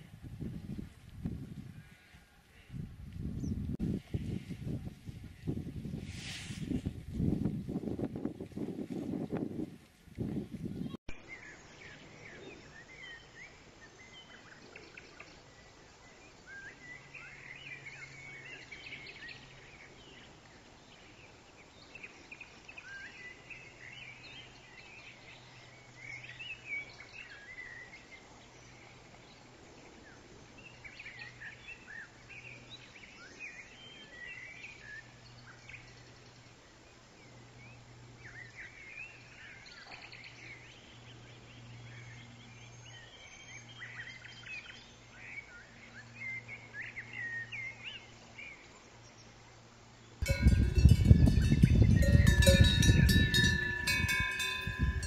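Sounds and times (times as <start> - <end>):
outdoor background noise: 0.0 - 55.0
small birds chirping: 10.6 - 55.0.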